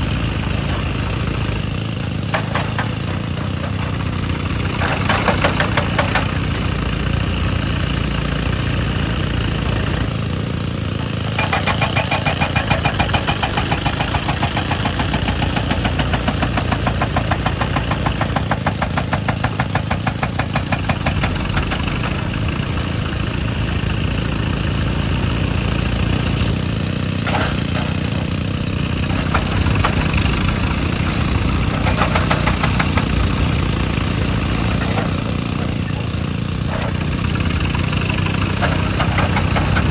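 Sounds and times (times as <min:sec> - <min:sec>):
diesel engine running: 0:00.0 - 0:39.9
hydraulic breaker hammering rock: 0:00.0 - 0:39.9.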